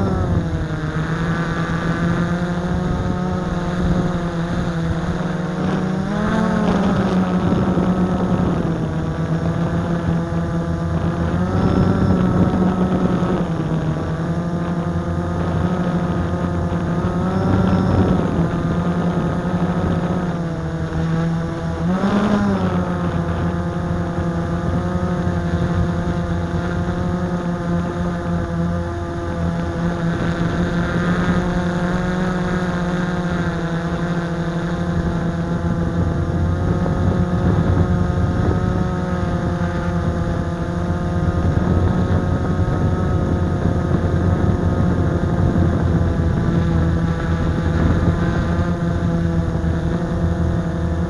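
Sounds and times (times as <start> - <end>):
quadcopter motors buzzing: 0.0 - 51.0.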